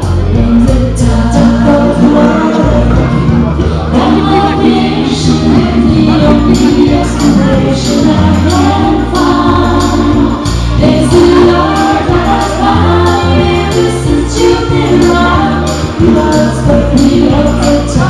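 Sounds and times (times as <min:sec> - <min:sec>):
bass line: 0:00.0 - 0:18.0
steady percussive beat: 0:00.0 - 0:18.0
woman singing into microphone: 0:00.0 - 0:18.0.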